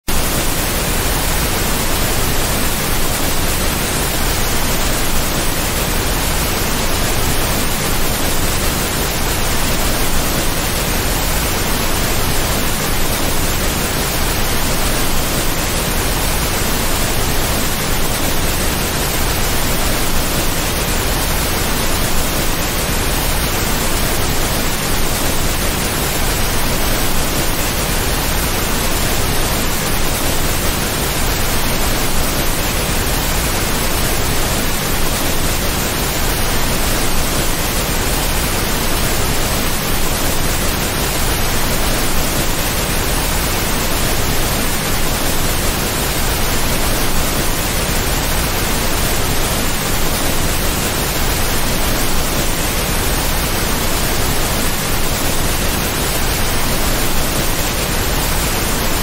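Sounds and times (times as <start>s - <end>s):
waterfall rushing: 0.1s - 59.0s.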